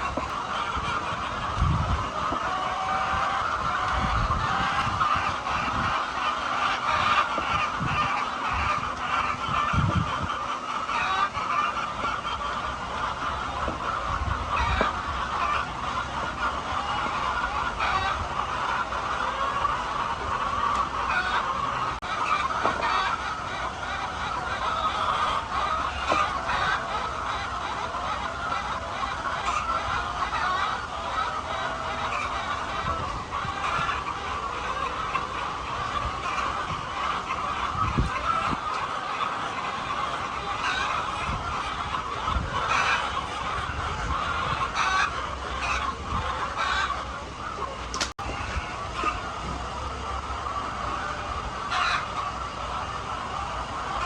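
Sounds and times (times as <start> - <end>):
flock of chickens clucking: 0.0 - 54.0.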